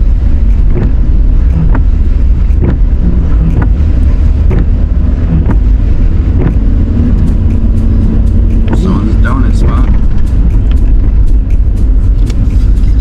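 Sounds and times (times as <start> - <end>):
vehicle engine running: 0.0 - 13.0
wind buffeting microphone: 0.0 - 13.0.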